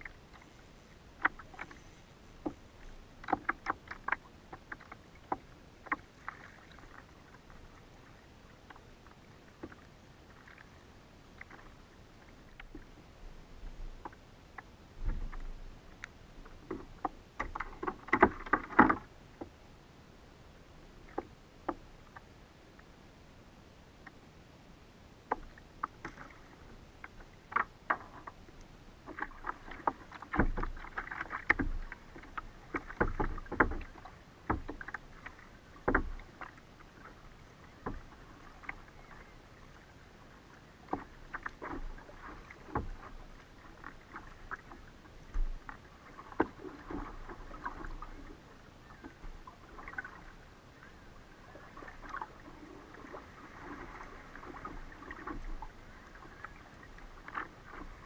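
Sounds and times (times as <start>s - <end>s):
water splashing against kayak hull: 0.0s - 19.6s, 25.3s - 58.0s.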